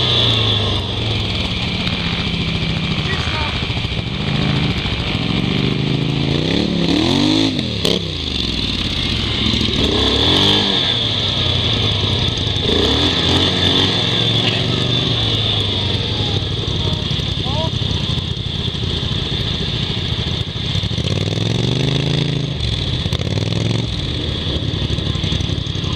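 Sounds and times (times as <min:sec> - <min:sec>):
atv engines revving: 0:00.0 - 0:25.9.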